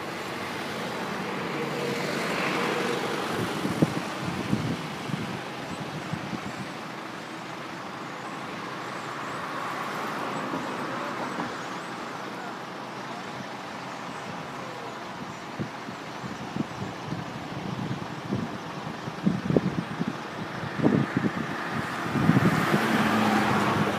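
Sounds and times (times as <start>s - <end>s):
road traffic rushing: 0.0s - 23.9s.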